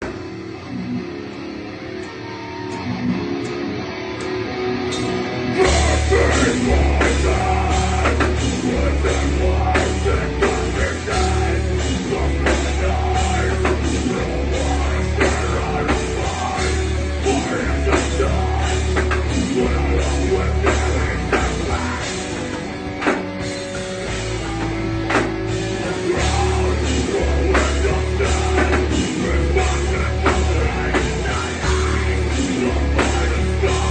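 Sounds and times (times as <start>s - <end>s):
bass guitar: 0.0s - 33.9s
drums: 0.0s - 33.9s
electric guitar: 0.0s - 33.9s
heavy rock band playing: 0.0s - 33.9s.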